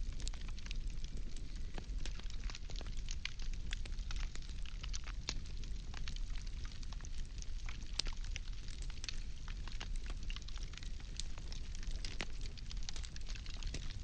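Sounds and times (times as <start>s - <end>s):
low fire rumble: 0.0s - 14.0s
wood fire crackling: 0.0s - 14.0s.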